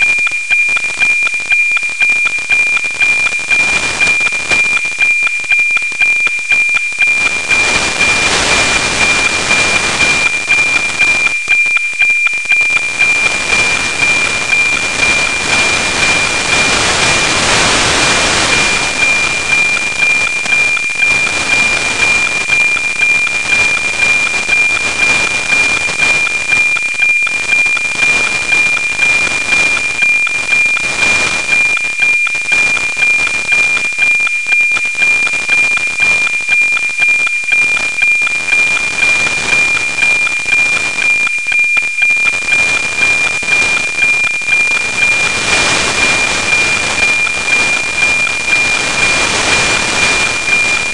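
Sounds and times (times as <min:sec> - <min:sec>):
ticking steady tone: 0:00.0 - 0:50.9
static hiss: 0:00.8 - 0:05.0, 0:06.9 - 0:41.3, 0:42.2 - 0:50.9.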